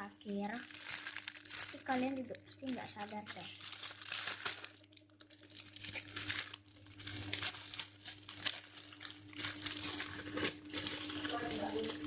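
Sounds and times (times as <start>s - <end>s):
foam toy crinkling and crackling: 0.0s - 12.0s.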